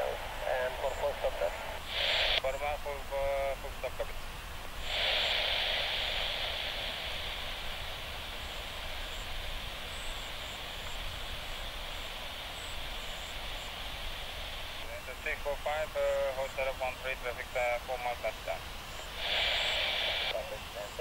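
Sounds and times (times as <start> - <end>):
radio receiver static hiss: 0.0 - 21.0.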